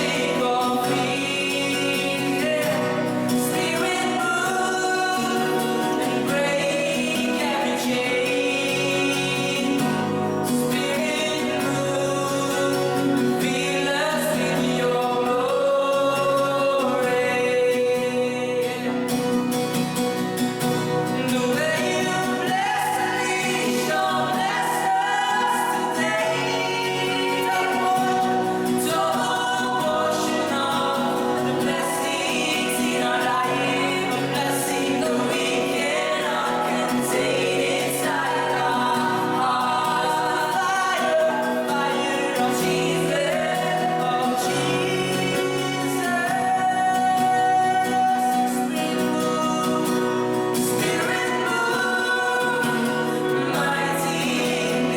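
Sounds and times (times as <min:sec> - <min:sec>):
group singing gospel song: 0:00.0 - 0:54.9.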